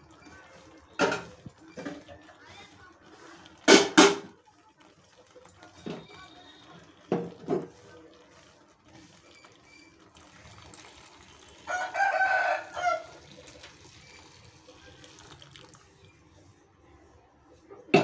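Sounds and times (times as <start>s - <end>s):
milk pouring into pan: 0.0s - 16.3s.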